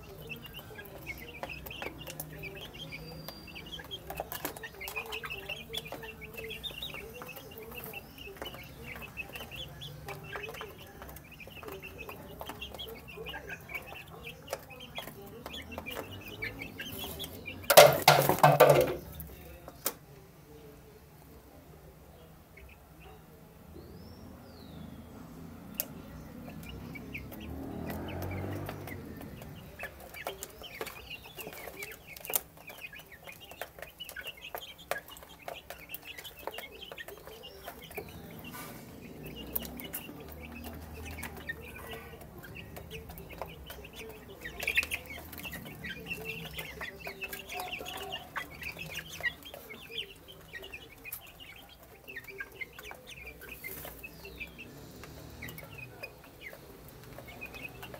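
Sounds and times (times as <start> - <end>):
beaks pecking feed dish: 0.0 - 57.9
chicks clucking and peeping: 0.0 - 57.9.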